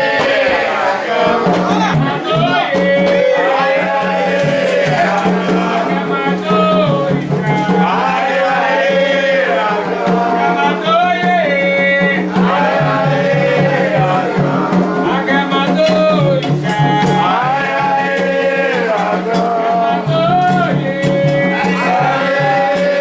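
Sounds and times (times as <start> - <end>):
light percussion: 0.0 - 23.0
voices singing a chant: 0.0 - 23.0.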